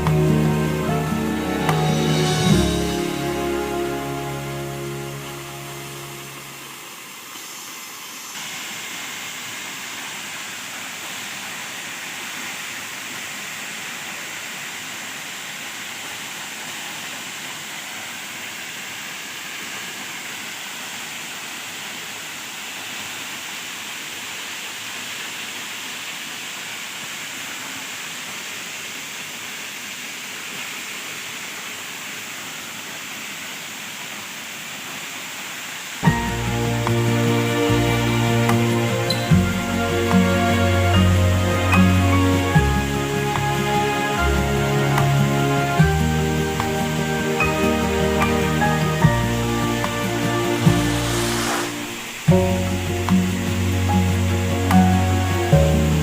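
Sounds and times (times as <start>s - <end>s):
waterfall rushing hiss: 0.0s - 56.0s.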